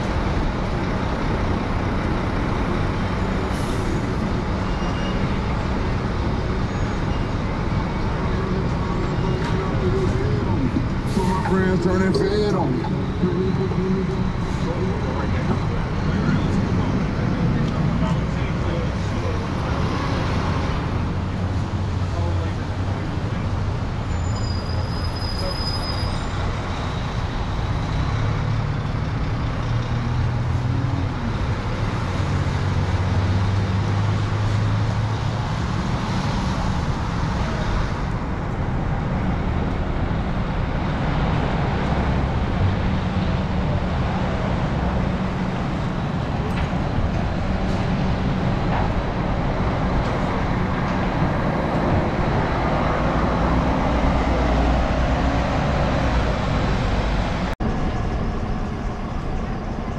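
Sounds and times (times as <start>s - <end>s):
motor vehicles passing and idling: 0.0s - 25.4s, 26.1s - 59.9s.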